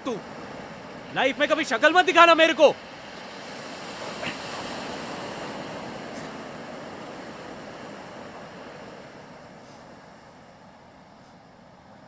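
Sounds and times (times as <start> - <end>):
waves washing on rocky shore: 0.0 - 11.9.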